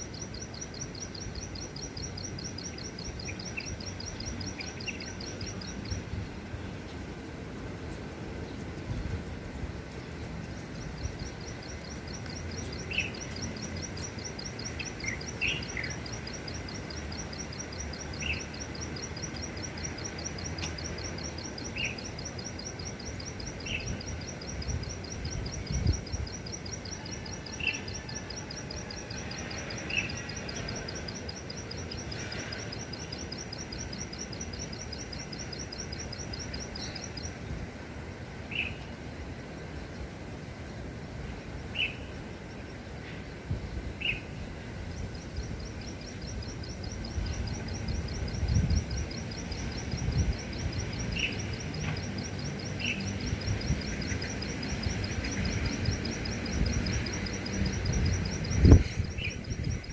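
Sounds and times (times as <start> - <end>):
songbird high-pitched trill: 0.0 - 37.8, 38.4 - 39.0, 41.6 - 42.9, 43.9 - 59.9.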